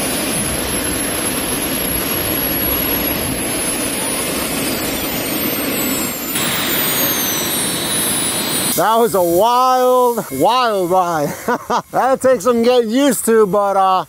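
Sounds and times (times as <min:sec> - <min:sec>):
jet engine roar with turbine whine: 0:00.0 - 0:14.0.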